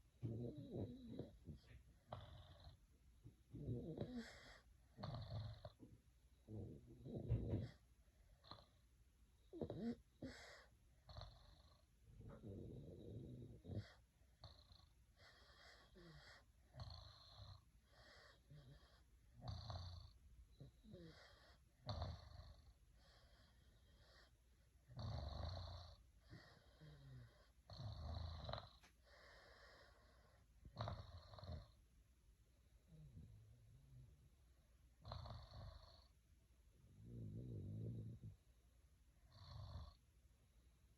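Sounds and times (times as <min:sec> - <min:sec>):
faint snoring: 0:00.1 - 0:31.8, 0:32.8 - 0:34.3, 0:35.0 - 0:36.2, 0:36.8 - 0:38.4, 0:39.2 - 0:40.0.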